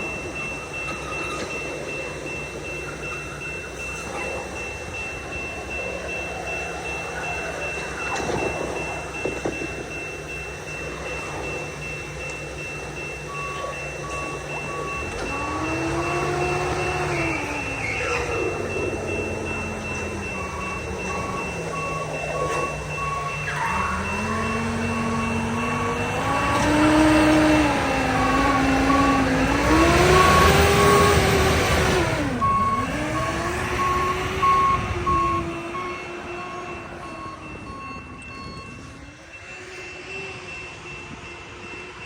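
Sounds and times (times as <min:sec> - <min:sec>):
diesel engines revving: 0:00.0 - 0:42.0
electronic beeping: 0:00.0 - 0:42.0.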